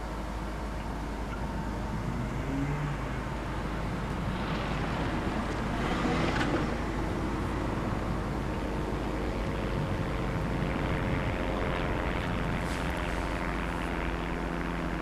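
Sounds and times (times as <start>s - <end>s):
traffic rumble: 0.0s - 15.0s
rush of passing noise: 1.4s - 14.4s.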